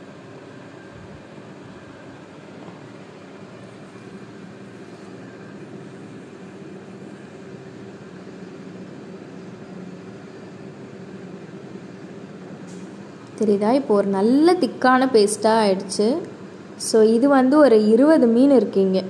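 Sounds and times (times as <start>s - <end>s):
fan motor humming: 0.0s - 19.0s.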